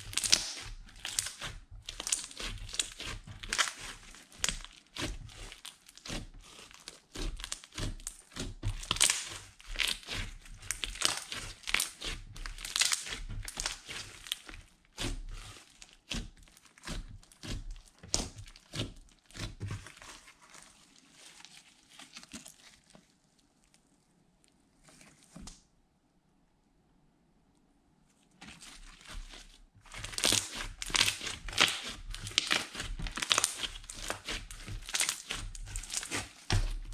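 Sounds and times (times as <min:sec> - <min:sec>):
slime squishing and popping: 0:00.0 - 0:22.9, 0:29.0 - 0:36.9.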